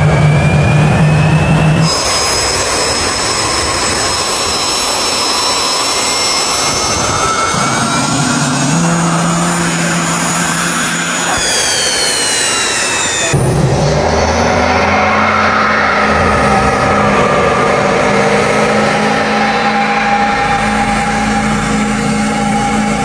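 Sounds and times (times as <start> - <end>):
high whine tones sliding down: 0.0 - 23.0
jet engine running: 0.0 - 23.0.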